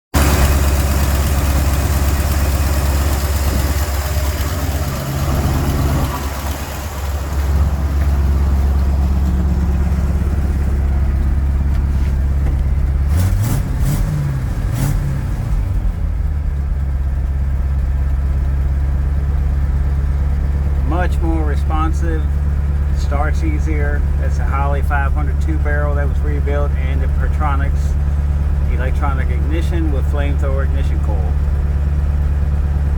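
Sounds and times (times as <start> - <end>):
truck engine idling: 0.2 - 32.9.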